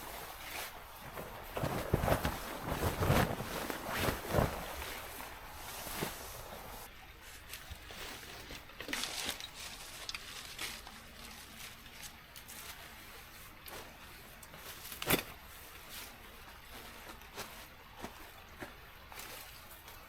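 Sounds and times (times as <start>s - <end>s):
soft rustles and clicks: 0.0s - 20.0s.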